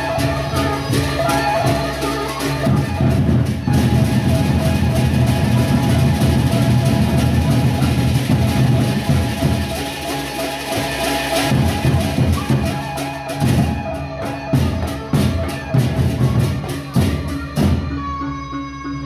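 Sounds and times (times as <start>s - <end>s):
cymbal strokes: 0.0s - 15.6s
barrel drums beaten: 0.0s - 17.9s.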